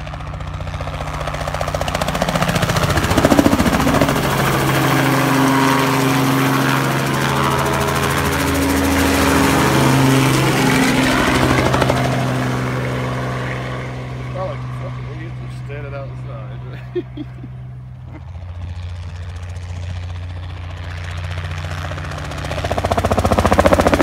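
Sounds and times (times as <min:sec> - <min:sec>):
helicopter flying overhead: 0:00.0 - 0:24.0.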